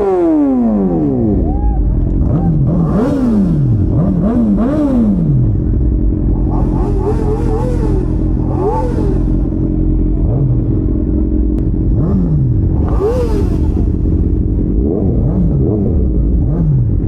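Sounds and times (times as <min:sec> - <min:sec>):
motorcycle engine revving: 0:00.0 - 0:17.0
motorcycles running: 0:00.0 - 0:17.0.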